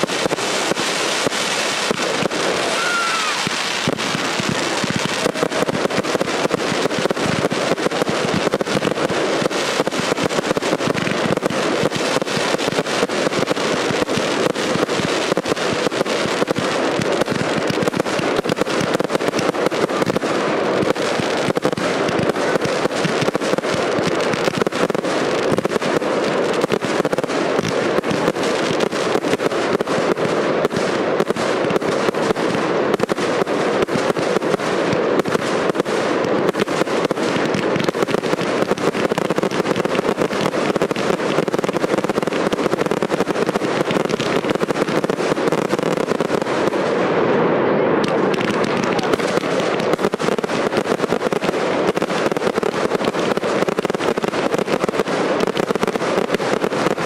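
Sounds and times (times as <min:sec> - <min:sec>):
fireworks barrage: 0:00.0 - 0:57.0.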